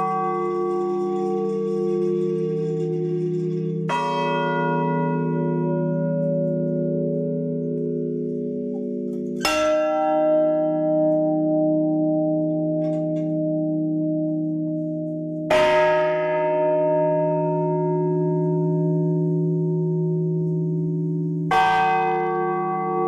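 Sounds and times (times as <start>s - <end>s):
bell hum: 0.0s - 23.0s
church bell strikes: 0.0s - 23.0s.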